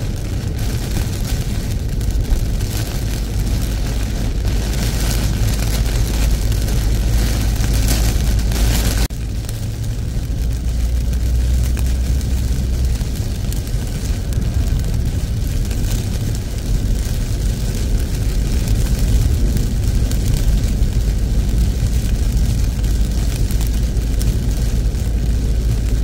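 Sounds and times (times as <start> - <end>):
heavy rain on car roof: 0.0 - 26.0
tyre and road rumble: 0.0 - 26.0.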